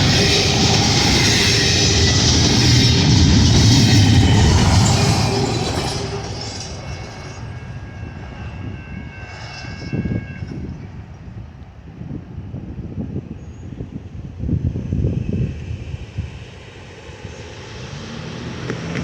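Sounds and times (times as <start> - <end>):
freight train rumble: 0.0 - 19.0.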